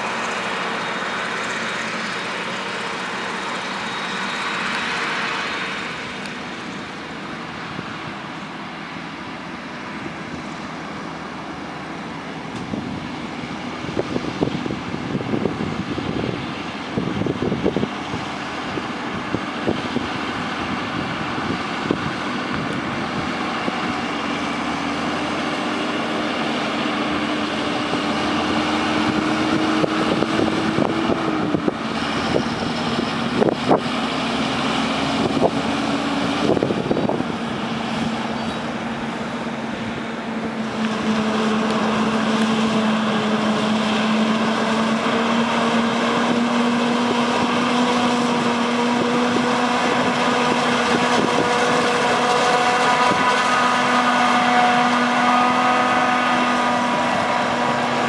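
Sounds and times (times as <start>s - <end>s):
tractor pulling a trailer: 0.0s - 58.0s.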